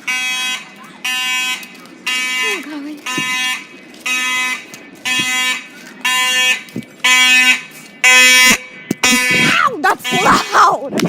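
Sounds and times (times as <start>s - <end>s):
fire alarm horn pulsing: 0.0s - 10.7s.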